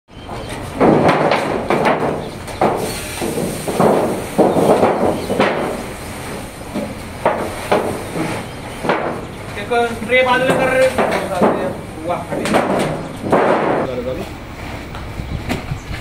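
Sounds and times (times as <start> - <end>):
irregular clattering knocks: 0.2 - 13.9.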